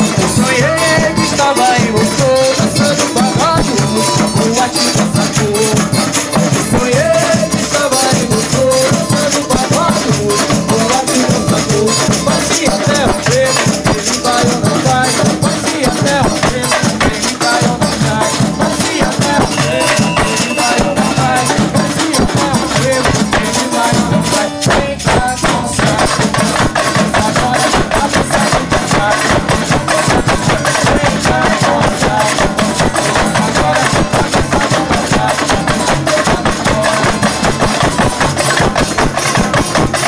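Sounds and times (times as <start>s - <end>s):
bass drums: 0.0s - 40.0s
man singing into a microphone: 0.0s - 40.0s
metal jingle shakers: 0.0s - 40.0s.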